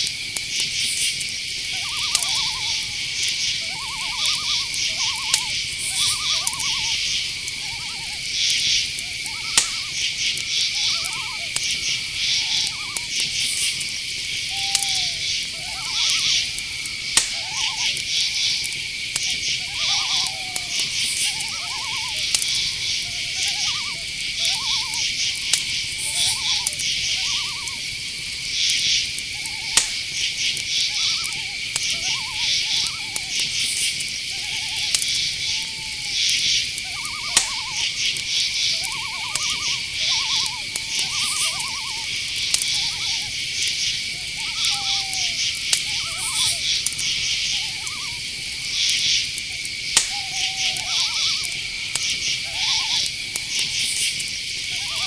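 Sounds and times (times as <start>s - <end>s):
crickets chirping: 0.0s - 55.0s
insect high trill: 0.0s - 55.0s
owl calls: 0.0s - 55.0s
sharp clicks: 0.0s - 55.0s.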